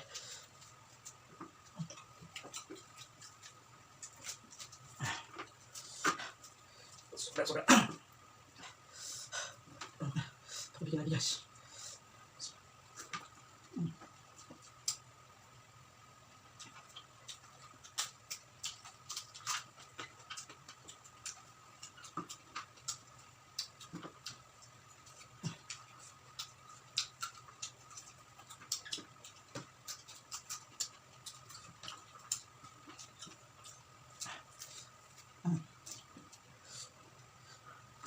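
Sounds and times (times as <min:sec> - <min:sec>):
crunchy chewing of meat and bones: 0:00.0 - 0:07.5, 0:11.8 - 0:38.0.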